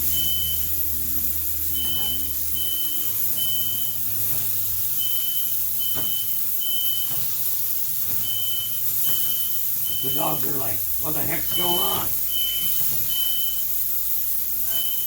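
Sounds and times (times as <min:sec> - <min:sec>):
smoke alarm beeping: 0:00.0 - 0:15.0.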